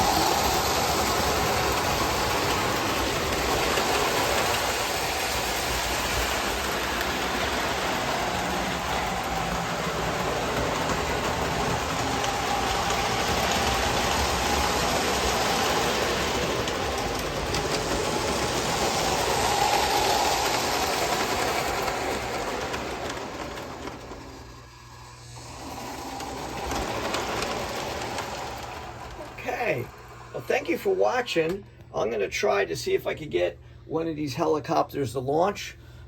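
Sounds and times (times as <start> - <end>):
model train whirring on rails: 0.0 - 31.5.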